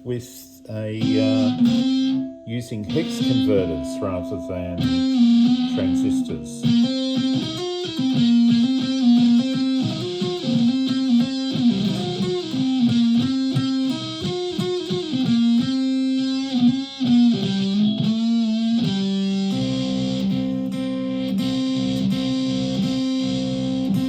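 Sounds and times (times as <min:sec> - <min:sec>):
distorted electric ukulele melody: 0:00.0 - 0:24.0.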